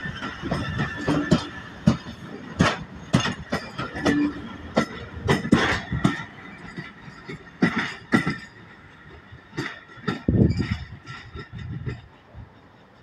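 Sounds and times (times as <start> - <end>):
train low rumble: 0.0 - 13.0
train wheels clacking on rail joints: 0.0 - 13.0.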